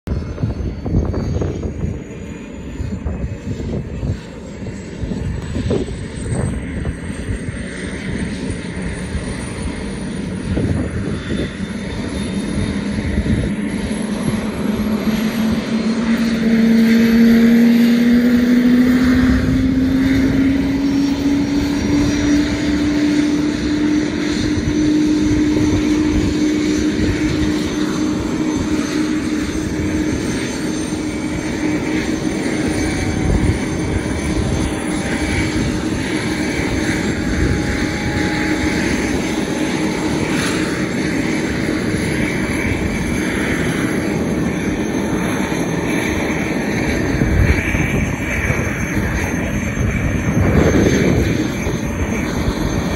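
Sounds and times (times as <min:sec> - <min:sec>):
helicopter rotor hum: 0:00.0 - 0:52.9
helicopter turbine whine: 0:00.0 - 0:52.9
steady rumble: 0:00.1 - 0:52.9.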